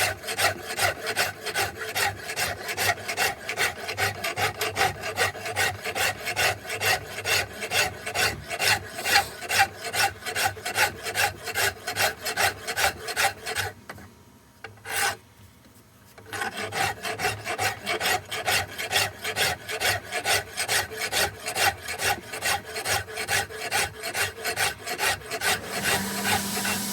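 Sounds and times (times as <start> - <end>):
wood rasp strokes on wood: 0.0 - 13.8, 14.8 - 15.2, 16.1 - 26.9.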